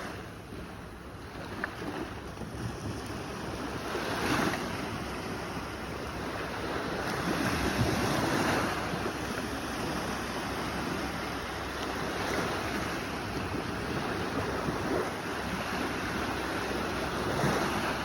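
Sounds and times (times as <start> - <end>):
sea waves washing in: 0.0 - 18.0.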